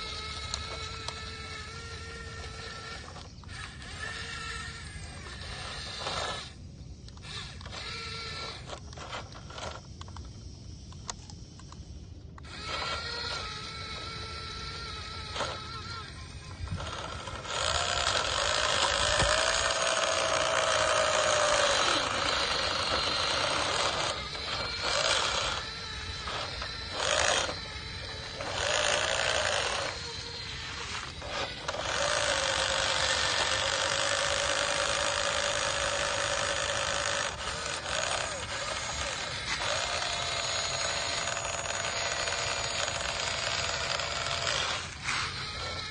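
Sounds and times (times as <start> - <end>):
toy electric motors whirring: 0.0 - 45.9.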